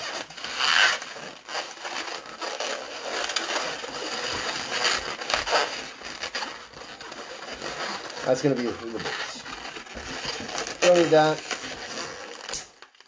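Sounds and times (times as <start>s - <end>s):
balloons rubbing and squeaking: 0.0s - 13.0s.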